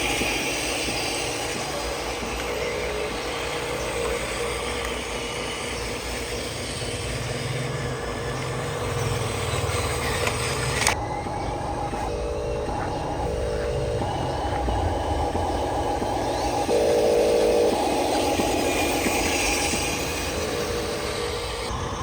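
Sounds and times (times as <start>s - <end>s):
radio-controlled trucks droning: 0.0s - 22.0s.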